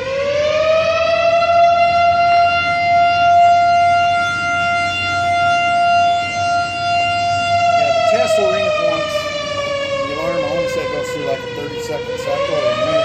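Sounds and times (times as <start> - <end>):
air raid siren wailing: 0.0 - 13.0.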